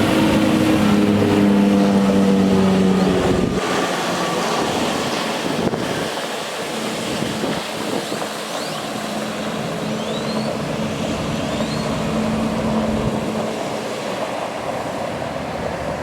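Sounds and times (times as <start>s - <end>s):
truck engine hum: 0.0s - 16.0s.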